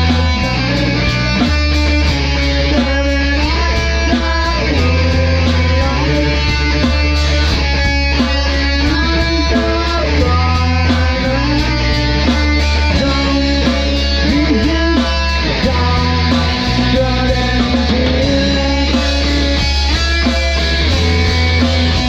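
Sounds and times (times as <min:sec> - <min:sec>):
rock music with electric guitar: 0:00.0 - 0:22.0.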